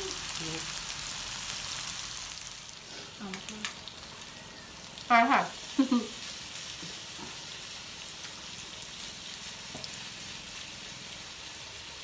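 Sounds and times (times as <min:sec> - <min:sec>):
skewers sizzling on grill pan: 0:00.0 - 0:12.0.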